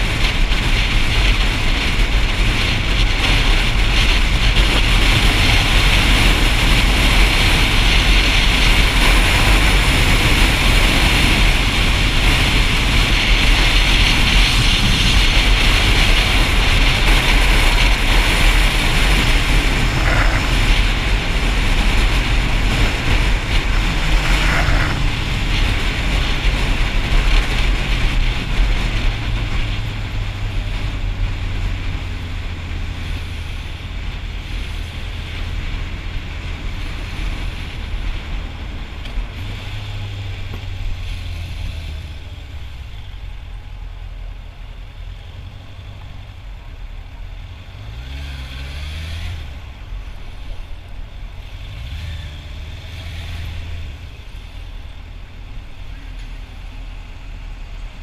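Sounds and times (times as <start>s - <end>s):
motorcycle engine: 0.0s - 58.0s
wind rush over microphone: 0.0s - 58.0s.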